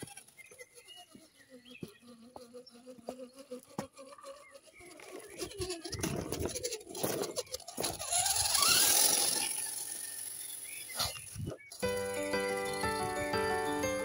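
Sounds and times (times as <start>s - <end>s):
faint birds chirping: 0.0s - 14.0s
toy truck motor whine: 0.0s - 14.0s.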